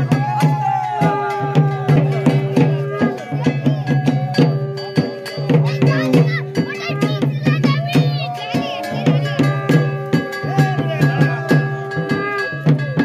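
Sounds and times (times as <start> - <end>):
percussion beat: 0.0 - 13.0.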